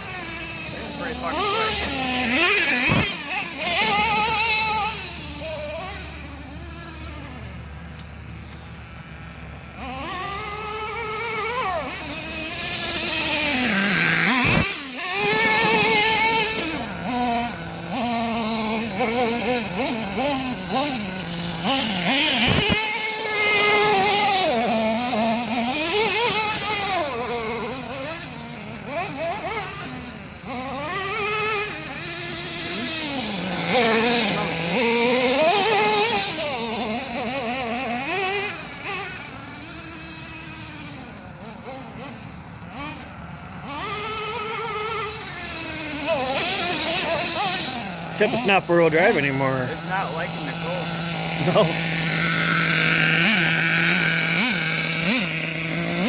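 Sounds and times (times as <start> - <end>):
small nitro engine revving: 0.0 - 56.0.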